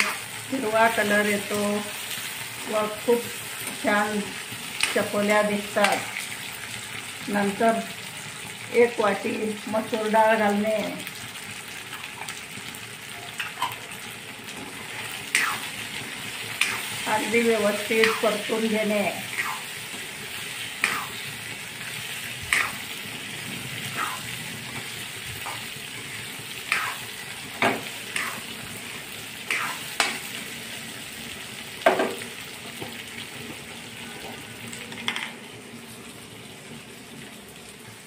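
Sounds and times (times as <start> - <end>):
vegetables sizzling in hot oil: 0.0 - 38.0.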